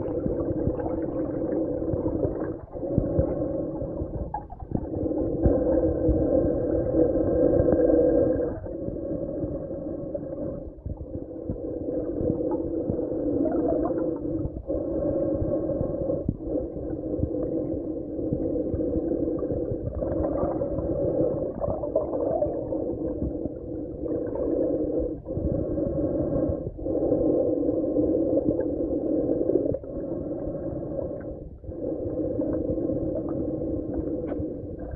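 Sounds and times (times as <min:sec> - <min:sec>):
muffled underwater drone: 0:00.0 - 0:34.9.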